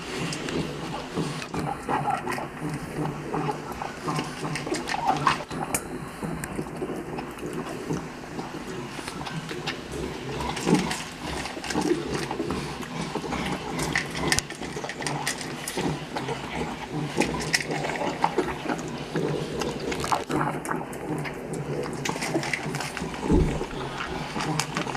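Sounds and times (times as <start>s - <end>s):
animals snuffling and eating: 0.0s - 24.9s
smacking and clicking: 0.0s - 24.9s.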